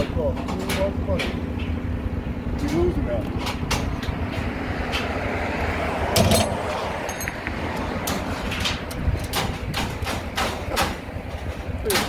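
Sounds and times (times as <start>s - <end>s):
strap hooks and buckles clanking: 0.0s - 1.8s, 2.6s - 5.2s, 6.1s - 12.0s
steady low rumble: 0.0s - 11.8s.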